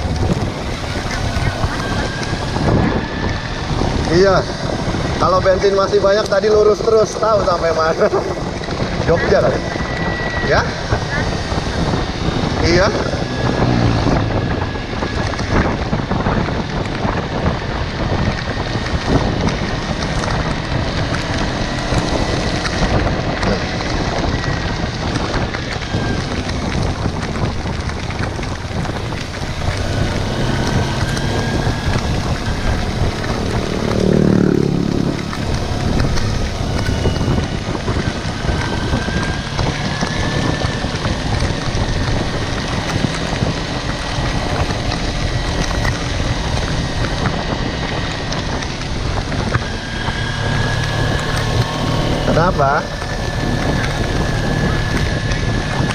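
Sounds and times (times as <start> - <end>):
motorcycle engine riding: 0.0 - 55.9
wind noise on microphone: 0.0 - 55.9.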